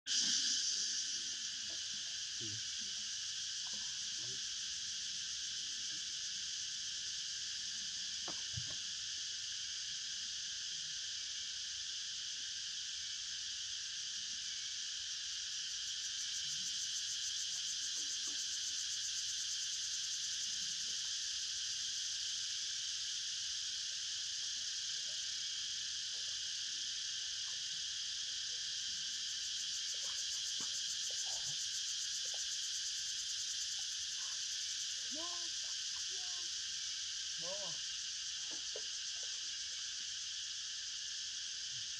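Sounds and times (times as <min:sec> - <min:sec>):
high-pitched insect chorus: 0:00.1 - 0:41.9.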